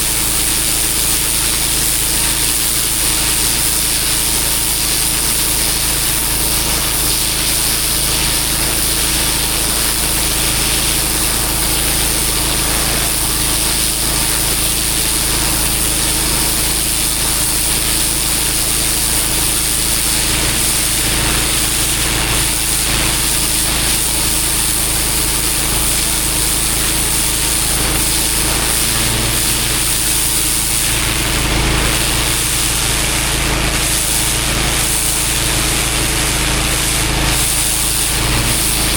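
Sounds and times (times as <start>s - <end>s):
high-pressure water jet hissing: 0.0s - 38.9s
pressure washer engine running: 0.0s - 38.9s.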